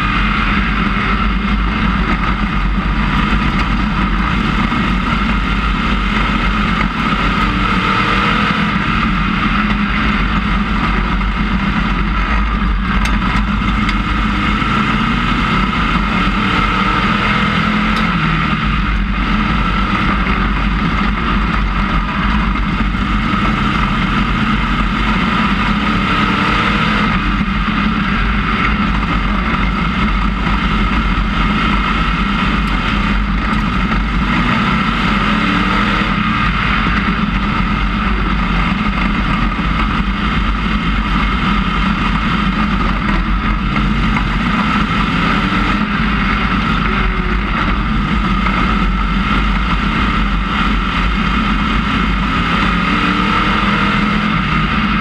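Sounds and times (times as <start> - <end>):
race car engine droning: 0.0 - 55.0.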